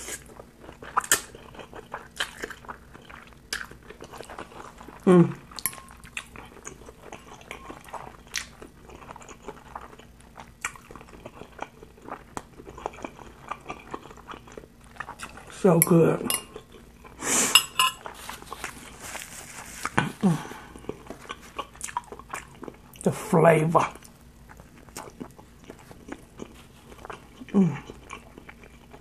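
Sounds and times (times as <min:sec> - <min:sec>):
chewing and slurping noodles: 0:00.0 - 0:15.6, 0:16.5 - 0:23.0, 0:24.0 - 0:29.0.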